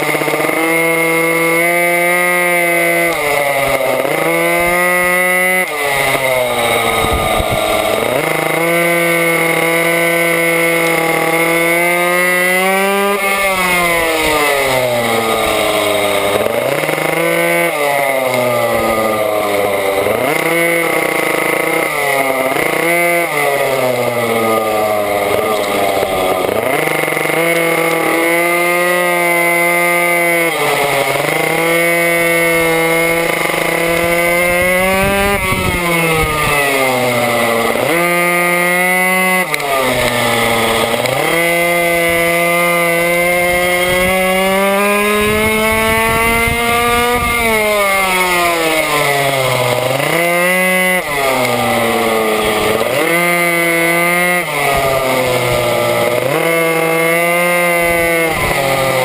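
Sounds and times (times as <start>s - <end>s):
small two-stroke engine racing: 0.0s - 59.0s.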